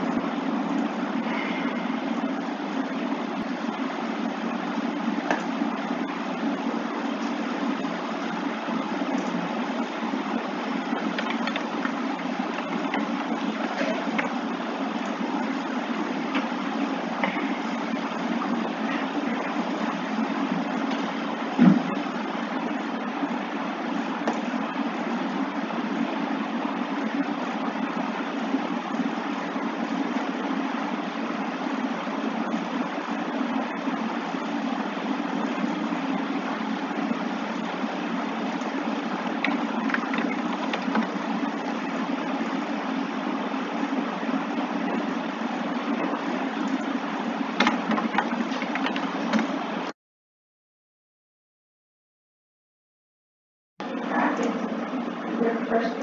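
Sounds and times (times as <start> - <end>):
steady hum with hiss: 0.0 - 49.9, 53.8 - 56.0.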